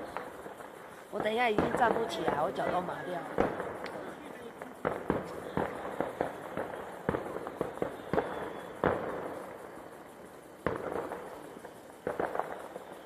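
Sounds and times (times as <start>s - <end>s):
fireworks bangs with rumbling echo: 0.0s - 13.0s.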